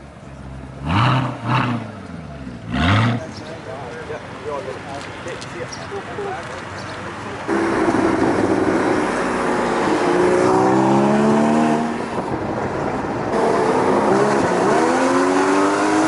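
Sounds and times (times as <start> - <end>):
car engines accelerating hard: 0.0 - 16.0.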